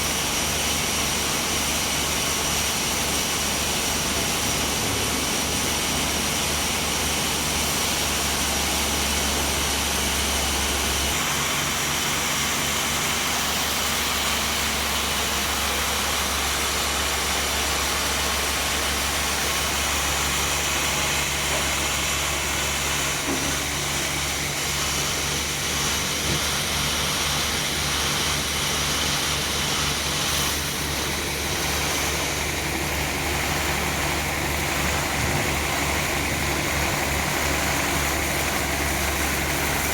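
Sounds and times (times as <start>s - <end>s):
sawmill motor drone: 0.0s - 39.9s.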